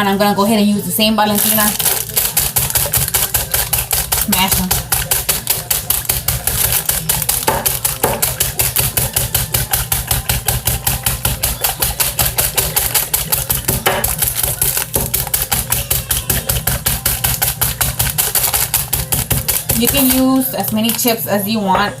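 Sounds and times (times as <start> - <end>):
chips crushing: 1.2 - 21.5
pounding on chip bag: 1.3 - 21.3.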